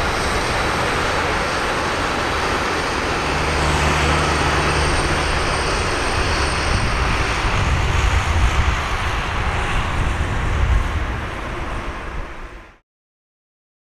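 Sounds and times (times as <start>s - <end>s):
jet engine roar of landing airliner: 0.0s - 12.8s.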